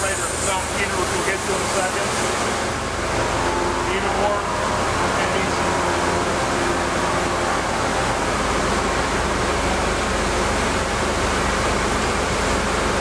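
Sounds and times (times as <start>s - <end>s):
machinery running: 0.0s - 13.0s
ventilation running: 0.0s - 13.0s.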